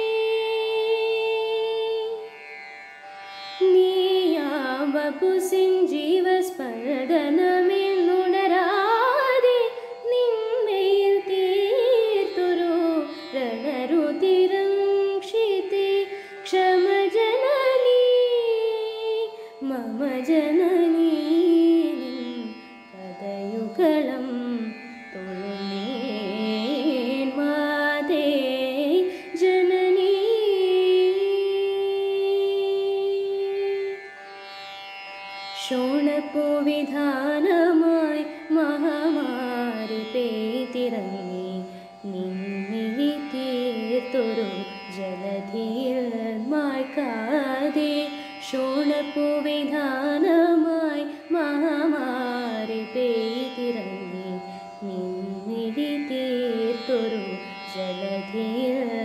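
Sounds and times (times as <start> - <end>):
woman singing wordless melody: 0.0 - 2.3, 3.5 - 34.0, 35.6 - 59.0.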